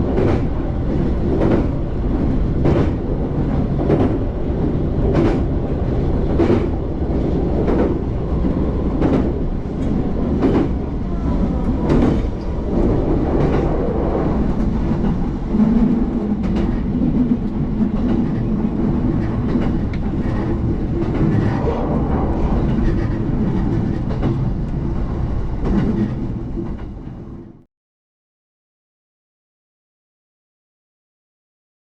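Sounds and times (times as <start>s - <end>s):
train rumbling on track: 0.0s - 27.7s.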